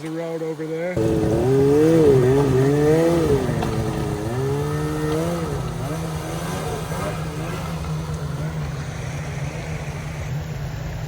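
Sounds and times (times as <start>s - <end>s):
snowmobile engine revving: 1.0s - 11.0s.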